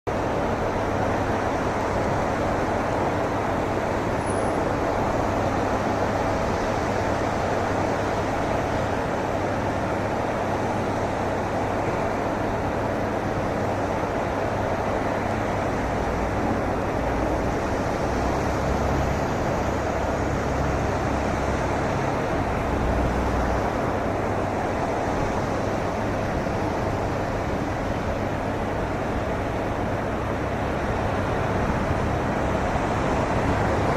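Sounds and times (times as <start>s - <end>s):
rushing vehicle noise: 0.0s - 33.9s.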